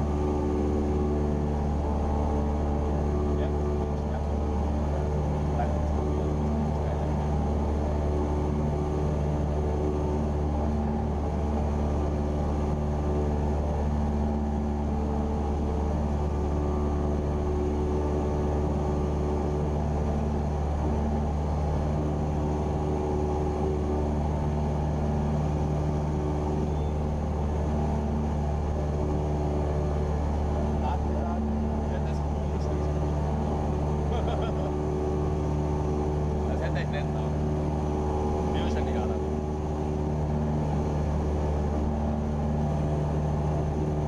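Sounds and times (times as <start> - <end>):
light aircraft engine droning: 0.0 - 44.0.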